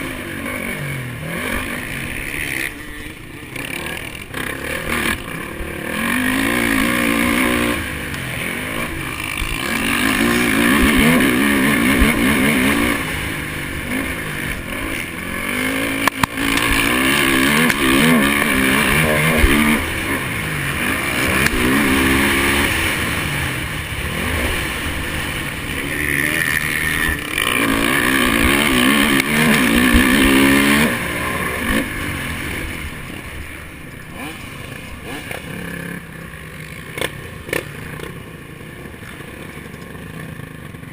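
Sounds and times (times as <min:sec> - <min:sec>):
motorbike engine revving: 0:00.0 - 0:40.9
steady rushing noise: 0:00.0 - 0:40.9.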